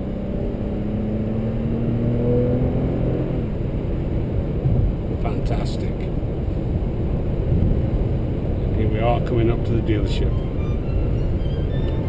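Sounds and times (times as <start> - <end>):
car engine hum rising: 0.0 - 12.0
road and tyre rumble: 0.0 - 12.0.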